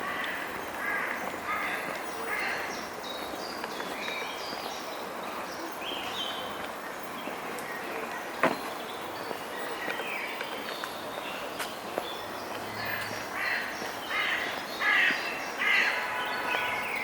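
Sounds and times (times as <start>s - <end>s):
outdoor background noise: 0.0s - 17.0s
songbirds singing: 0.0s - 17.0s.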